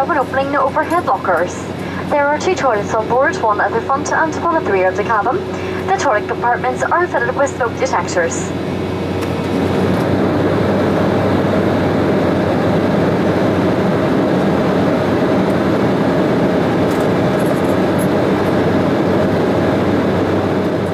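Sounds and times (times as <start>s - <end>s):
jet engines droning: 0.0s - 20.9s.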